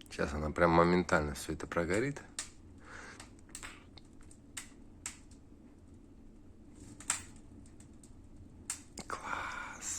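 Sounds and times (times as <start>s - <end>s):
wood stove burning hum: 0.0s - 9.9s
burning wood crackling: 0.1s - 9.9s.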